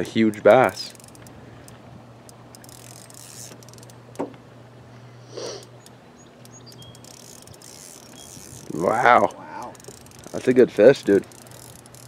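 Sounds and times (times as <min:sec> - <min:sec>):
fishing reel clicking: 0:00.0 - 0:04.0, 0:05.6 - 0:12.0
low steady hum: 0:00.0 - 0:12.0.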